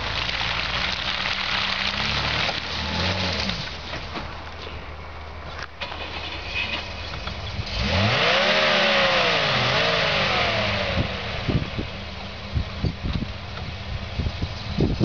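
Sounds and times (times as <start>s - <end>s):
truck engine revving: 0.0s - 4.4s, 5.8s - 15.0s.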